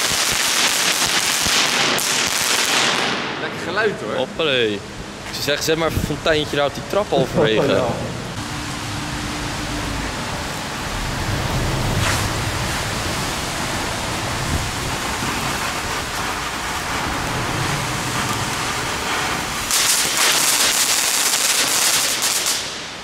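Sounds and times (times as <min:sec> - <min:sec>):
firework fountain hissing: 0:00.0 - 0:03.4, 0:04.6 - 0:23.0
firework crackling: 0:00.0 - 0:03.5, 0:07.8 - 0:23.0.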